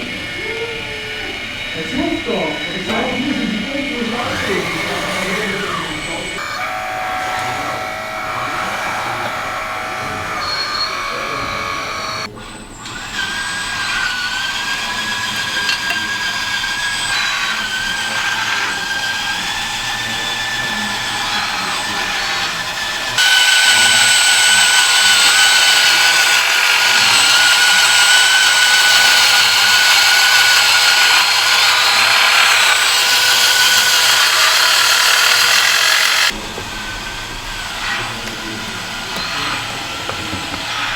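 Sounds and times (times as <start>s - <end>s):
small electric motors whining: 0.0s - 40.9s.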